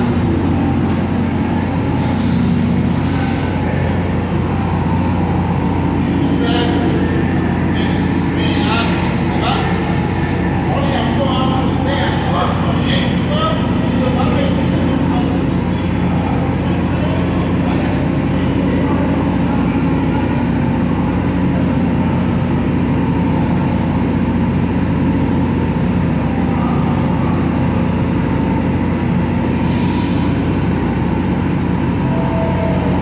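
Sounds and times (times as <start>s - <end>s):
trains droning idle: 0.0s - 33.0s.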